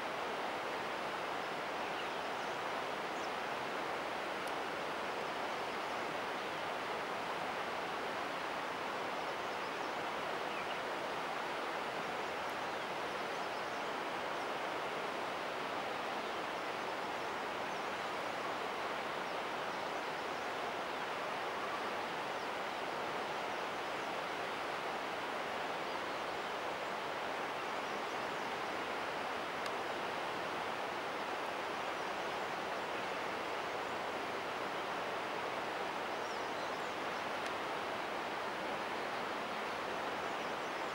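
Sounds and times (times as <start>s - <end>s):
steady rushing outdoor noise: 0.0s - 40.9s.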